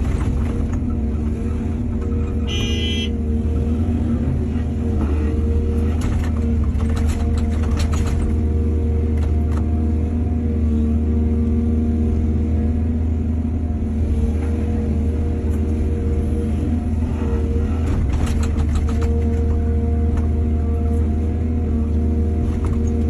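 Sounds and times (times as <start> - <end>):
diesel machinery rumbling: 0.0 - 23.0.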